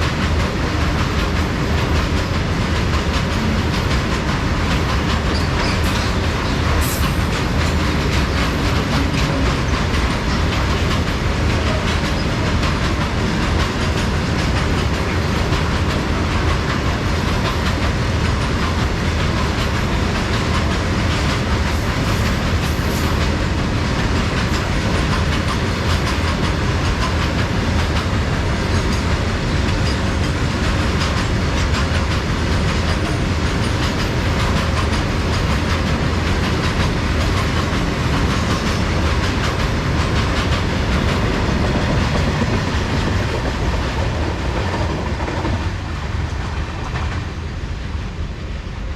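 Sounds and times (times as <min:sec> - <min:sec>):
wheels ticking over rail joints: 0:00.0 - 0:47.2
freight train rolling past: 0:00.0 - 0:48.9.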